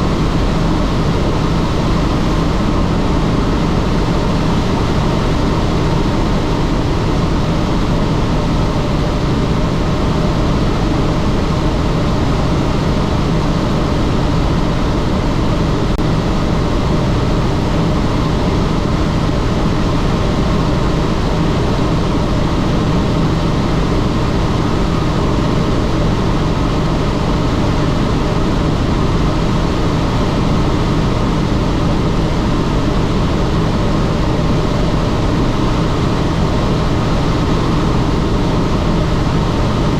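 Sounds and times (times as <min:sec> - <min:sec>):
constant low hum: 0:00.0 - 0:39.9
helicopter rotor and engine: 0:00.0 - 0:39.9.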